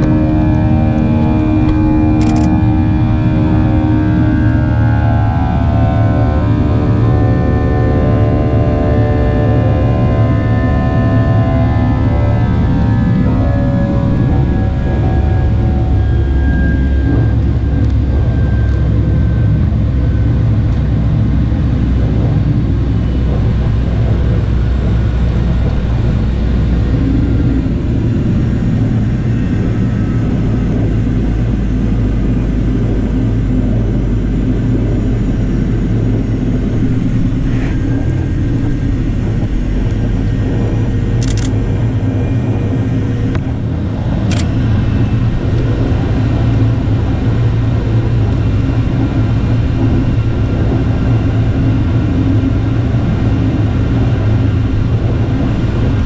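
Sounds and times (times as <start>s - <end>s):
deep cabin rumble: 0.0s - 56.0s
jet engines running loud: 0.0s - 56.0s.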